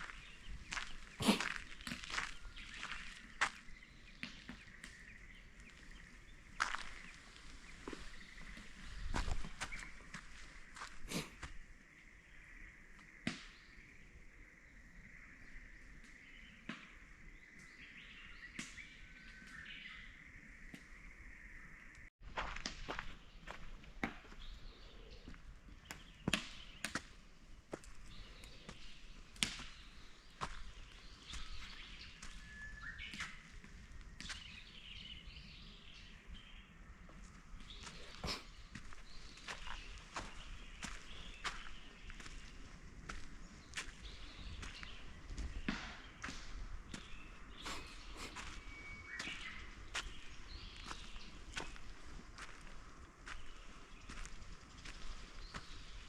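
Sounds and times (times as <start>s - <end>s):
small birds calling faintly: 0.0s - 56.0s.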